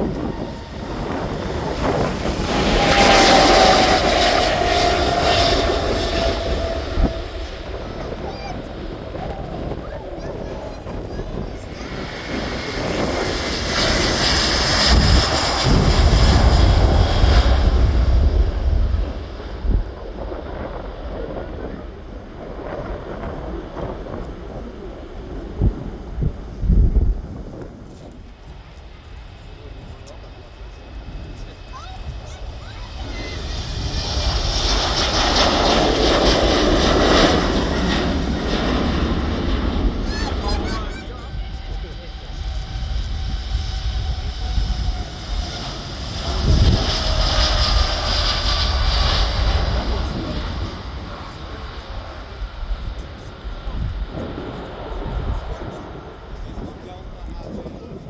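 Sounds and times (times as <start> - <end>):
jet airliner engines on takeoff: 0.0 - 58.0.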